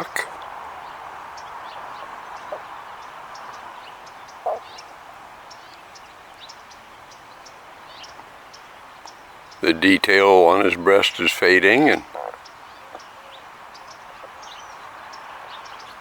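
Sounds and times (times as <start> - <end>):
small birds chirping: 0.0 - 16.0
steady background hiss: 0.0 - 16.0.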